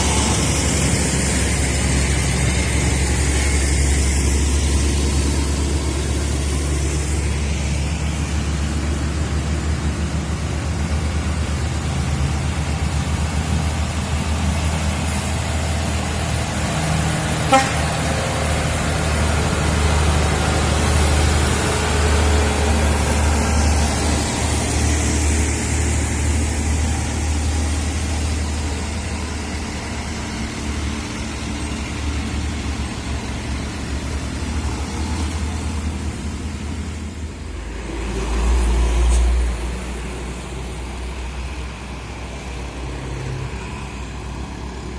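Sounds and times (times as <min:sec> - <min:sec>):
deep traffic rumble: 0:00.0 - 0:44.9
engine drone: 0:00.0 - 0:44.9.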